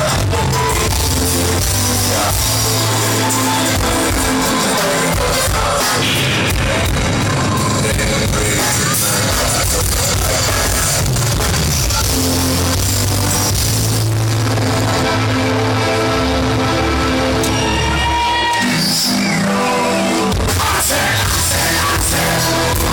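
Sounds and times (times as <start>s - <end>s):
live band playing: 0.0s - 22.9s
sustained bass notes: 0.0s - 22.9s.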